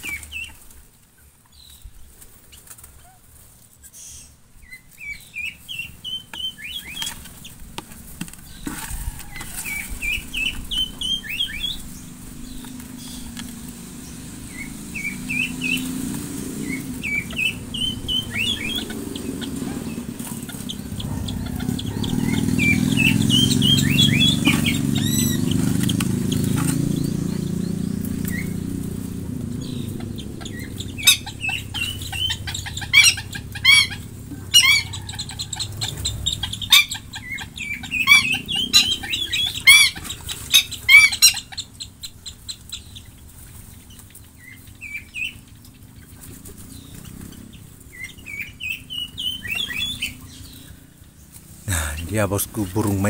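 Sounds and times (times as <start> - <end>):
birds chirping and calling: 0.0 - 53.0
sharp loud bird calls: 3.8 - 53.0.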